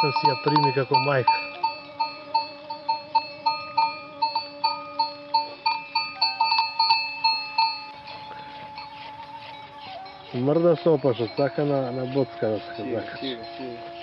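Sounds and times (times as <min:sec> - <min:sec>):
livestock bell clanking: 0:00.0 - 0:14.0.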